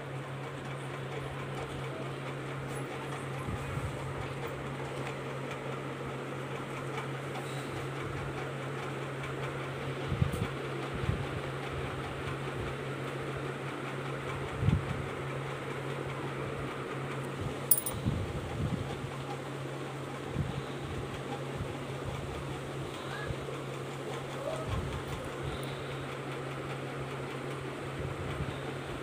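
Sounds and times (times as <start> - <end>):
fan humming: 0.0 - 29.0.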